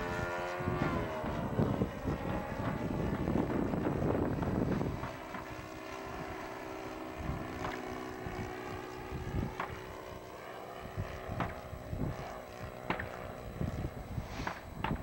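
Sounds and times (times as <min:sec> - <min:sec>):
wind buffeting microphone: 0:00.0 - 0:05.6, 0:07.2 - 0:10.0, 0:10.8 - 0:15.0
model airplane engine droning: 0:00.0 - 0:15.0.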